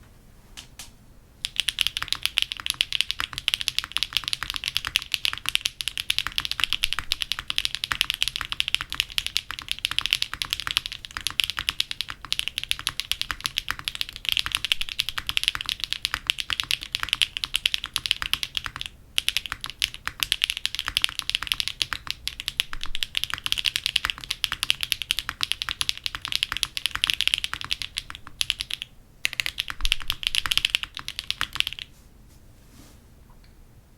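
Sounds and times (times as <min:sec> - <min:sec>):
mechanical keyboard typing: 0:01.4 - 0:31.9.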